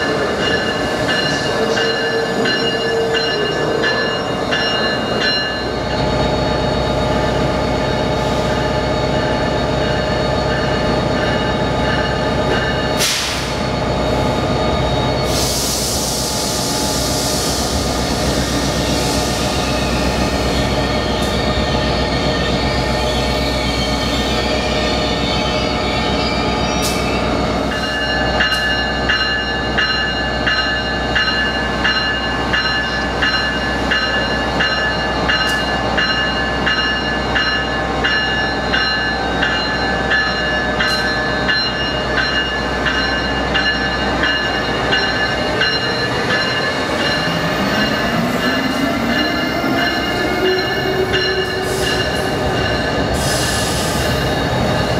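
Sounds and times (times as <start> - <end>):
locomotive bell ringing: 0.0 - 14.0, 18.6 - 54.9
rumble and hum of electric trains: 0.0 - 54.9.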